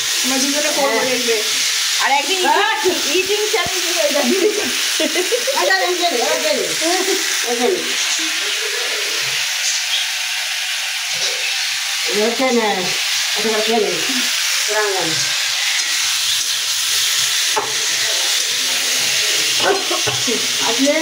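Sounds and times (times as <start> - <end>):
curry sizzling in a pan: 0.0 - 21.0.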